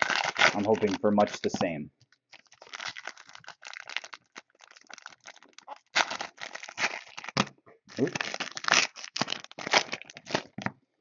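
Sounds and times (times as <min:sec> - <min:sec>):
plastic wrapper crinkling and tearing: 0:00.0 - 0:10.8.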